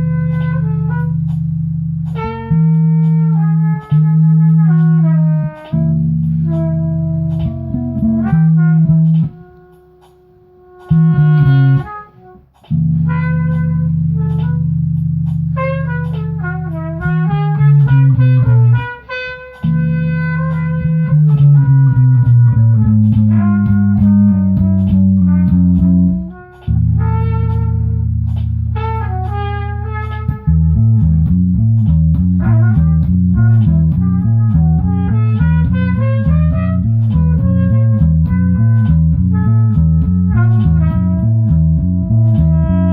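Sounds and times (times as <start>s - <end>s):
bass guitar: 0.0s - 42.9s.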